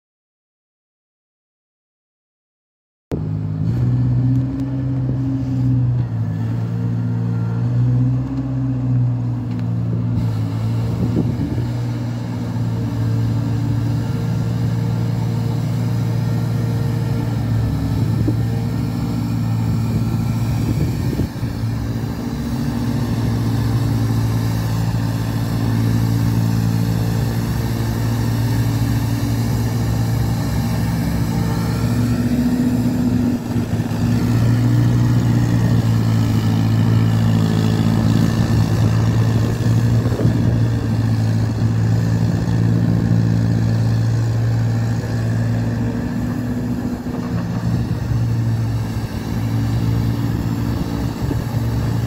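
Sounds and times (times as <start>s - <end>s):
ride-on sweeper engine running: 3.2s - 52.0s.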